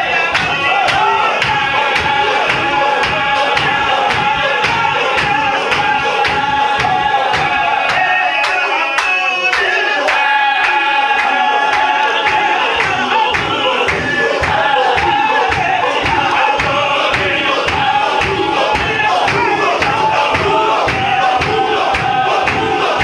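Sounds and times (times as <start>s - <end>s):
hands clapping: 0.0s - 23.0s
men chanting in unison: 0.0s - 23.0s.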